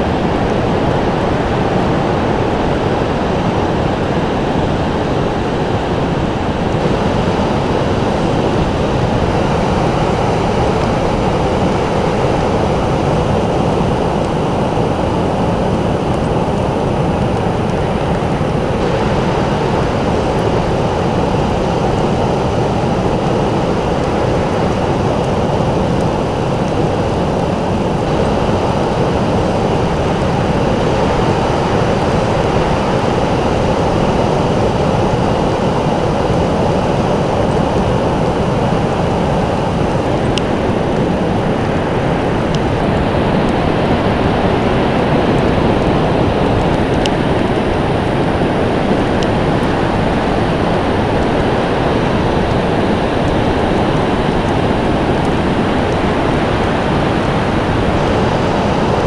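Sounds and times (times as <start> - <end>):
ocean surf roaring: 0.0 - 59.0.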